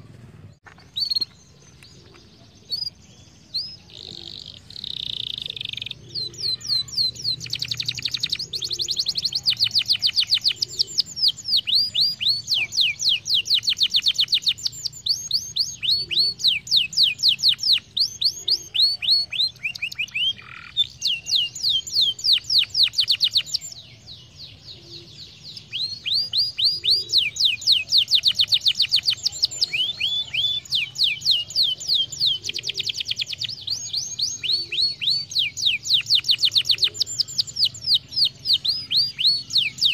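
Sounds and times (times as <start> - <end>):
canary singing in rapid trills: 2.0 - 39.9.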